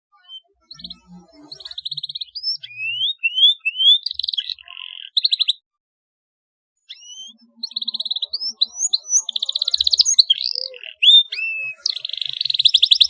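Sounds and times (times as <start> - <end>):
canary singing: 0.1 - 5.7, 6.8 - 13.0.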